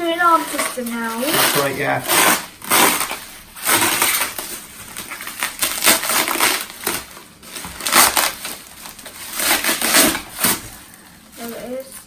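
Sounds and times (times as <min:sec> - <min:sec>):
packaging crackling: 0:00.0 - 0:12.0.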